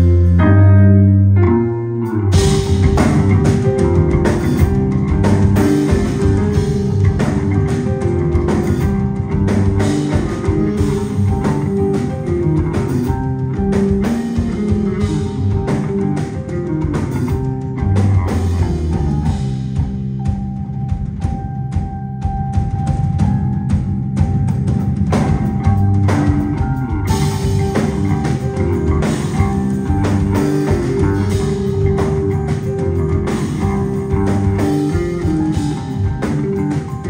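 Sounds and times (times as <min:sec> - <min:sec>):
rock band playing: 0:00.0 - 0:37.0
drums and cymbals: 0:02.3 - 0:37.0.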